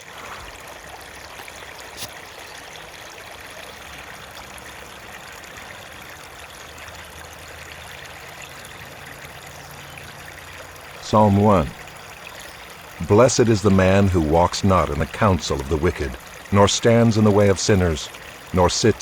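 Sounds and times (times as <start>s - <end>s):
stream running water: 0.0s - 19.0s.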